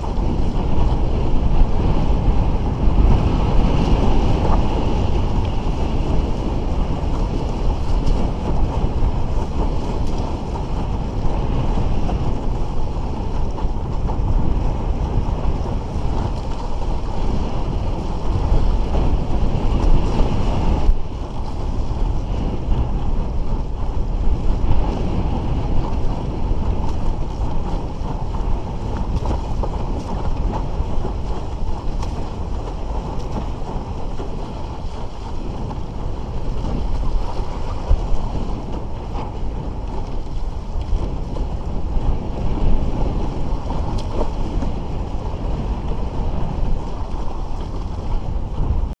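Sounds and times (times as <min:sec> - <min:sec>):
water slapping against hull: 0:00.0 - 0:49.0
wind buffeting microphone: 0:00.0 - 0:49.0.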